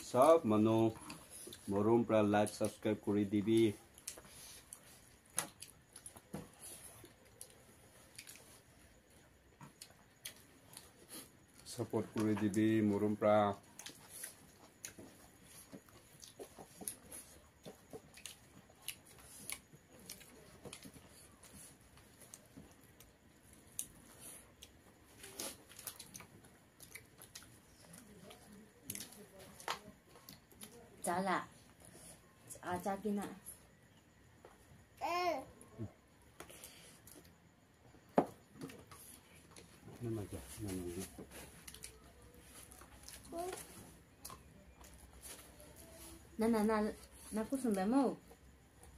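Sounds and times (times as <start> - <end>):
people eating: 0.3 - 32.6, 38.5 - 47.3
quiet chewing and lip smacks: 0.9 - 1.9, 3.5 - 32.6, 35.6 - 46.3.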